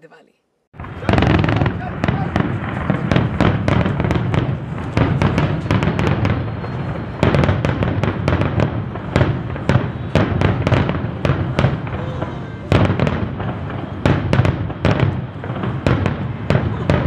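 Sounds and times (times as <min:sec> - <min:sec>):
fireworks bangs and crackles: 0:00.8 - 0:17.0.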